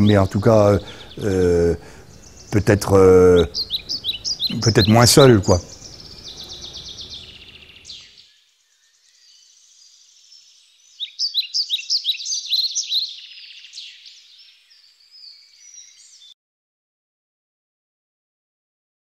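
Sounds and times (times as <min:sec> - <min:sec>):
songbird chirps and trills: 0:00.0 - 0:16.4.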